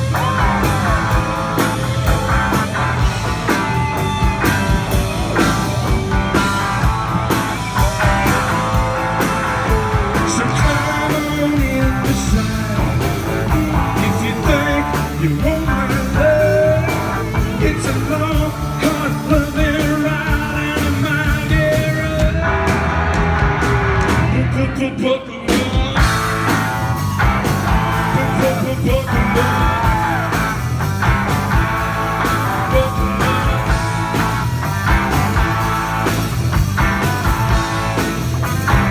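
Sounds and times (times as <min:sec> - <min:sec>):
pounding drum beat: 0:00.0 - 0:24.4, 0:25.6 - 0:38.9
bending lead guitar line: 0:00.0 - 0:38.9
live rock band playing: 0:00.0 - 0:38.9.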